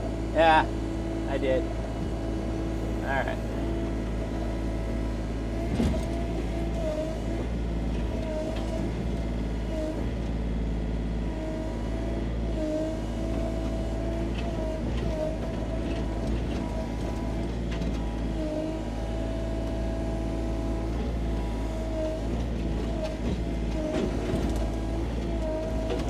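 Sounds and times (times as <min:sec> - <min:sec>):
excavator diesel engine whining: 0:00.0 - 0:26.0.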